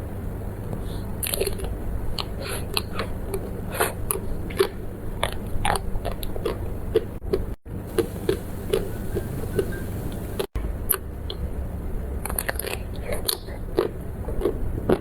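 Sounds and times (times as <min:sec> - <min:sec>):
crunchy eating and chewing: 0:00.7 - 0:15.0.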